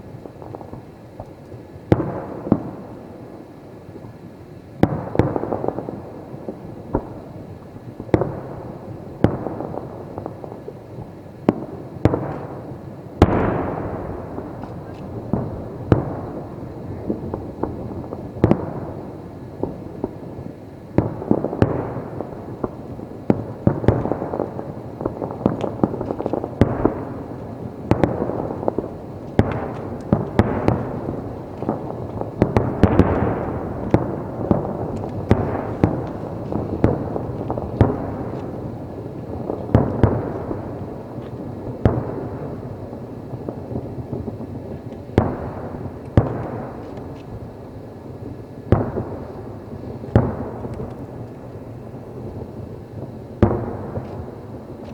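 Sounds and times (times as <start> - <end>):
fireworks crackling and rumbling: 0.0 - 54.9
firework bangs: 4.8 - 54.9.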